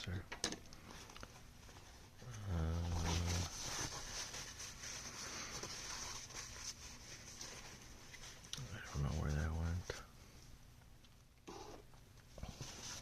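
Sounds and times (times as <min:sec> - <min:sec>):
rustling: 0:00.8 - 0:10.4, 0:12.2 - 0:13.0.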